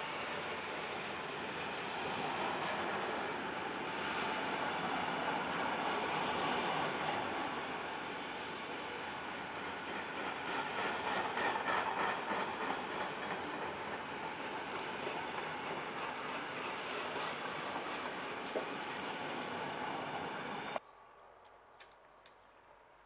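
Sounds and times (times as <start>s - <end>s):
wheels clacking over rail joints: 0.1s - 20.7s.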